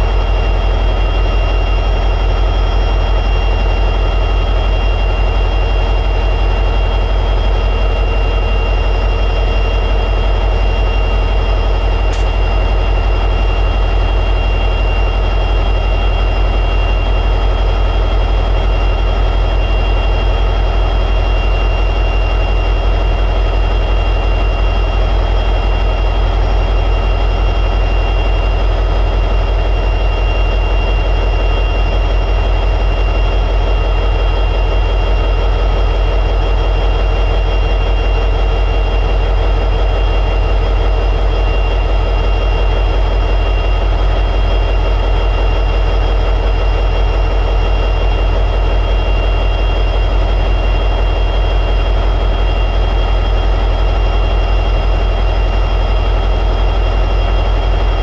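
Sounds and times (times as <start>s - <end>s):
high-pitched whine: 0.0s - 58.0s
locomotive engine rumble: 0.0s - 58.0s.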